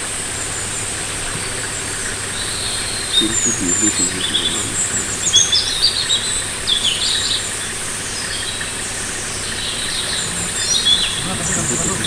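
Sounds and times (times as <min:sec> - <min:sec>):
wild birds chirping and trilling: 0:00.0 - 0:12.0.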